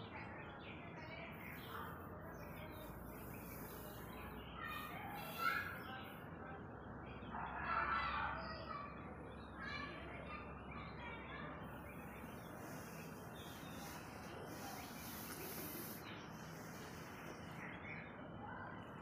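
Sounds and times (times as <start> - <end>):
faint bird chirps: 0.0 - 6.2, 7.1 - 19.0.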